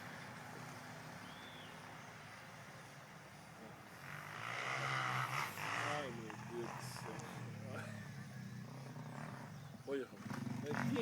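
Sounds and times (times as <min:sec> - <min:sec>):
distant motocross bike engine: 0:00.0 - 0:11.0.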